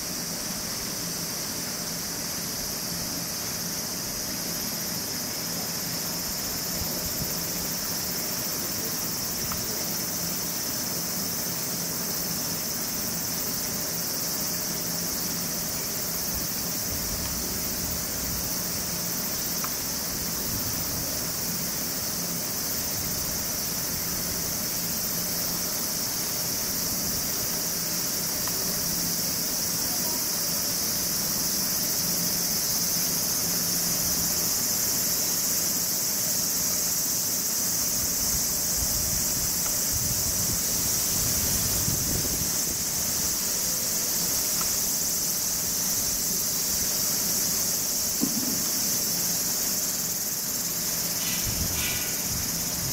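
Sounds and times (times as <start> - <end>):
insects chorus shrilling: 0.0 - 52.9.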